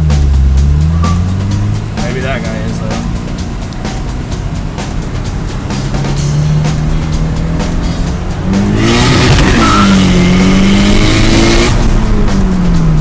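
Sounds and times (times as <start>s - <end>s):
car engine revving: 0.0s - 13.0s
turbo rush: 0.0s - 13.0s.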